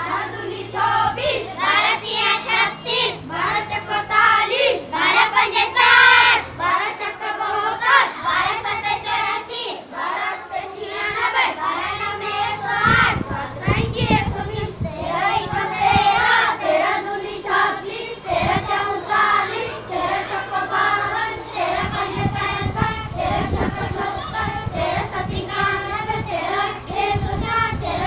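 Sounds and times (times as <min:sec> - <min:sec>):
children singing in unison: 0:00.0 - 0:28.0.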